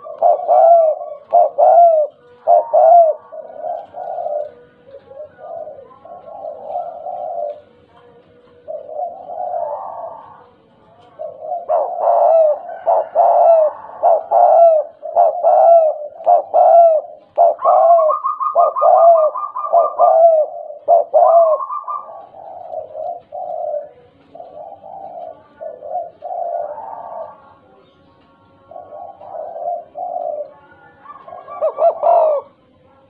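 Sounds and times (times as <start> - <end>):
dove cooing: 0.0 - 27.9, 28.6 - 32.8.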